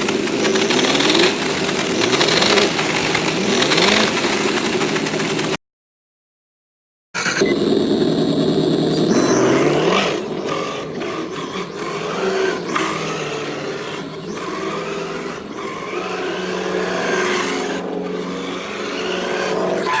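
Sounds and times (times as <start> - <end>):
simulated engine sound: 0.0 - 5.6, 7.2 - 20.0.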